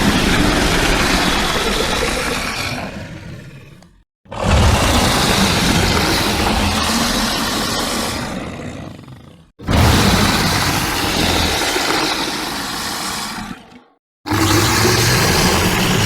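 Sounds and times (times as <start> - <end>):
rumbling alligator roar: 0.0 - 16.0.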